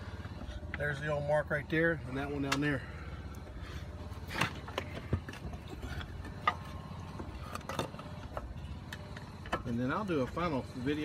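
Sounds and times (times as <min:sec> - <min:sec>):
hydraulic pump engine running: 0:00.0 - 0:11.0.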